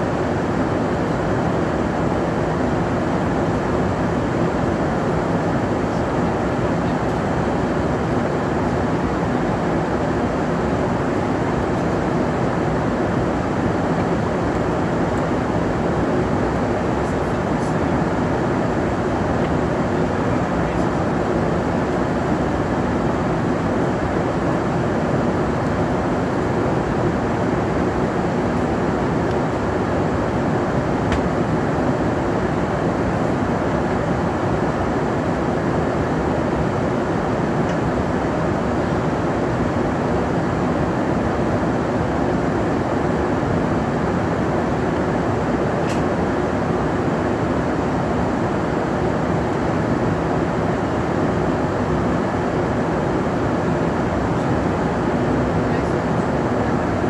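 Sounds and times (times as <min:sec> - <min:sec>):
airplane cabin rush: 0:03.3 - 0:39.8, 0:43.8 - 0:57.0.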